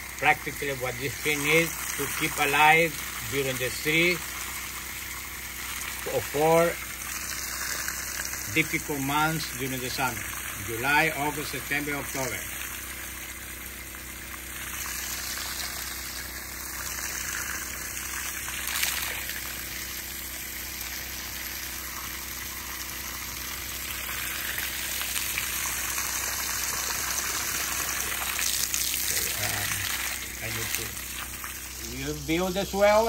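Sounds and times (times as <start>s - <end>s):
hose water splashing on soil: 0.0s - 33.0s.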